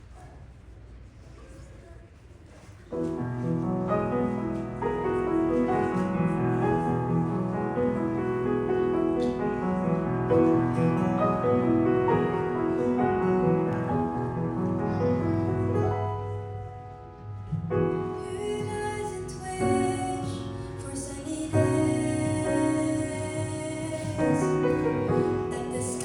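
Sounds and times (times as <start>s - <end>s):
piano playing sustained chords: 3.2s - 26.0s.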